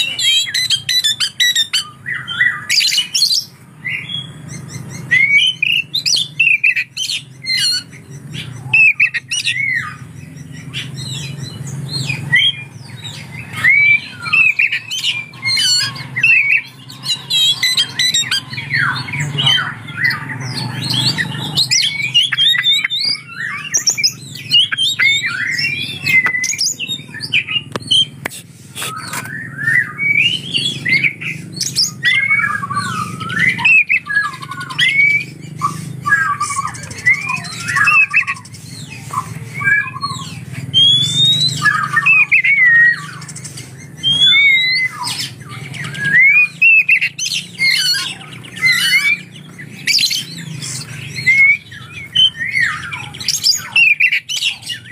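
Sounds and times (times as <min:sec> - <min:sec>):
bird singing varied song: 0:00.0 - 0:54.9.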